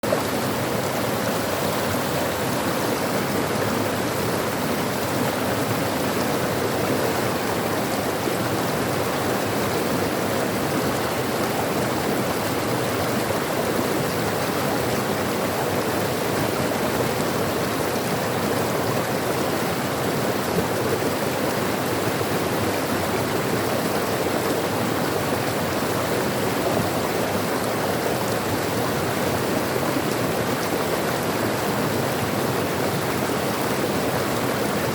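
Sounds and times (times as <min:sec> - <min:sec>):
stream water rushing: 0:00.0 - 0:34.9.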